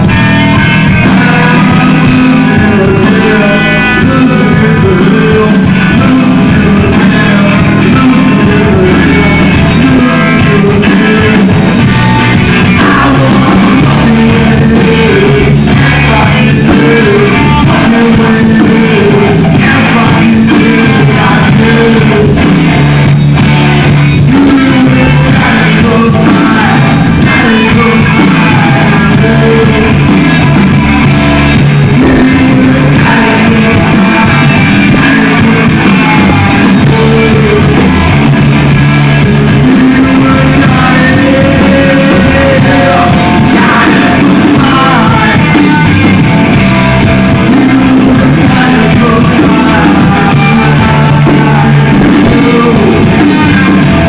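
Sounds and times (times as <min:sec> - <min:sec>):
man singing into microphone: 0:00.0 - 0:22.9, 0:24.0 - 0:30.5, 0:31.5 - 0:38.4, 0:39.0 - 0:54.0
bass guitar: 0:00.0 - 0:54.0
drums: 0:00.0 - 0:54.0
electric guitars: 0:00.0 - 0:54.0.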